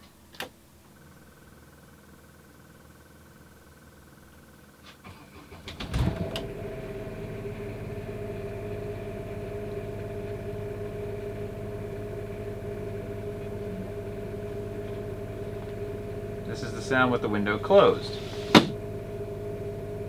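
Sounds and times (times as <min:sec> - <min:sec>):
generator starting and humming: 0:00.0 - 0:20.0.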